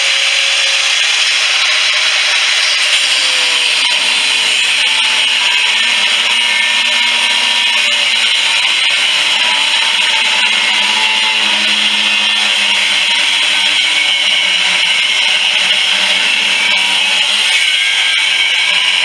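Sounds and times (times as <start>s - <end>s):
electric grinder grinding: 0.0s - 19.0s.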